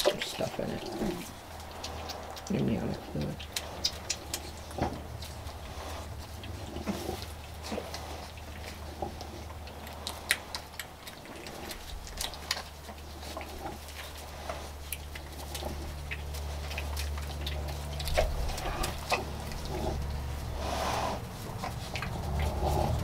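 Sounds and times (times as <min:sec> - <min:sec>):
pig grunting softly: 0:00.0 - 0:23.0
steady low hum: 0:00.0 - 0:23.0
rustling in straw: 0:03.6 - 0:23.0.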